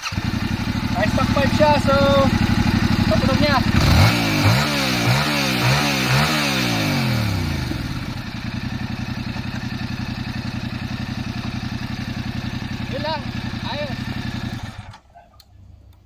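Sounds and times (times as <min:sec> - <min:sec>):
motorcycle engine revving: 0:00.0 - 0:15.1
motorcycle engine idling: 0:00.0 - 0:16.0.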